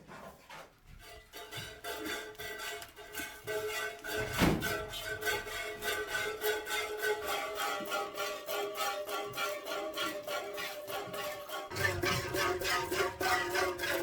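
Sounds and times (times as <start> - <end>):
instrumental string music: 0.9 - 14.0.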